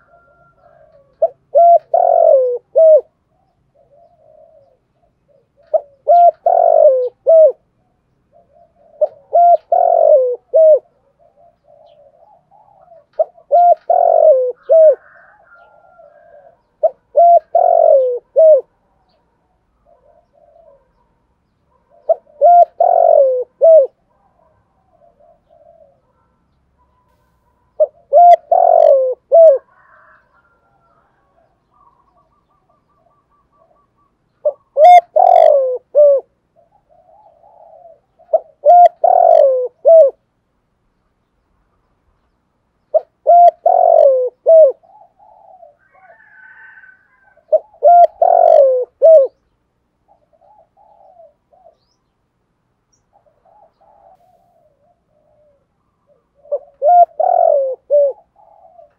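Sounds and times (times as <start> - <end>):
dove cooing: 0.0 - 40.4, 42.8 - 52.1, 52.9 - 58.9.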